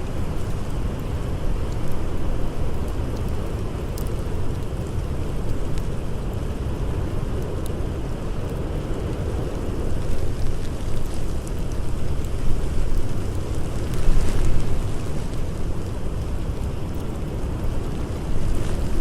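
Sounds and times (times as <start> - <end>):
blizzard wind blowing: 0.0 - 19.0
campfire crackling: 0.0 - 19.0.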